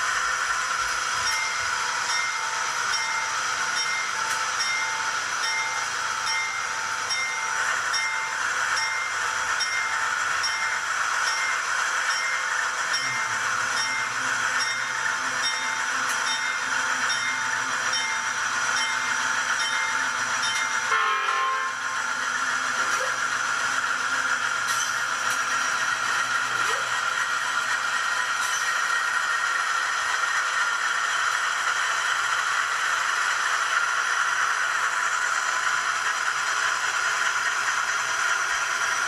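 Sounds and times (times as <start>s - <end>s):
model locomotive engine sound: 0.0s - 39.0s.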